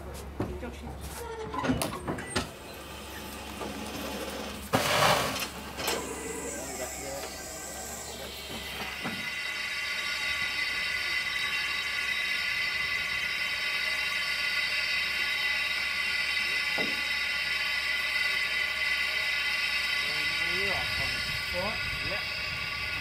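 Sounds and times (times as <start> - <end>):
steam locomotive hissing: 2.5 - 23.0.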